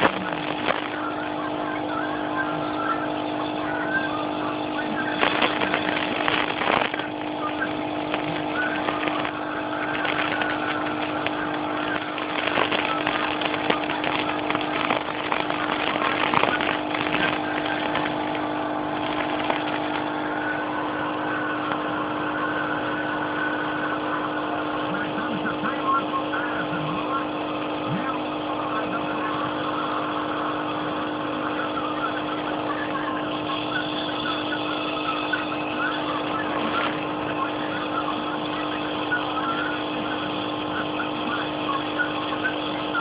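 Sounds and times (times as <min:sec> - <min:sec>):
air compressor humming and hissing: 0:00.0 - 0:43.0.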